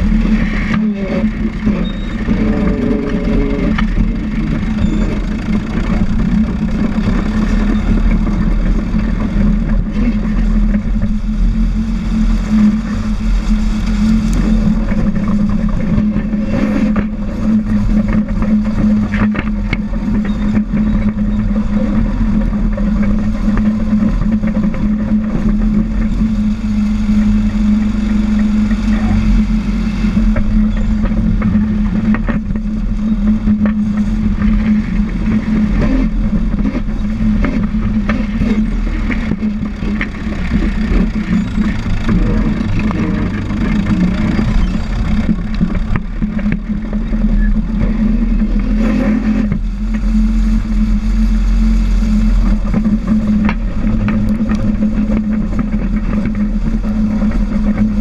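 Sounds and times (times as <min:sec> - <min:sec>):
diesel engine running steadily: 0:00.0 - 0:58.0
dozer pushing dirt: 0:00.0 - 0:58.0.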